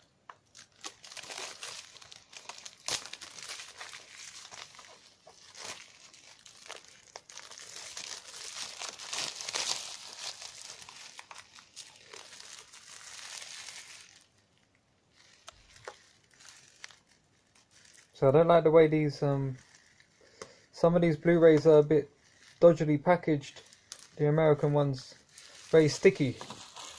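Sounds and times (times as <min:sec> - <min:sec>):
plastic wrap crinkling: 0:00.3 - 0:26.9.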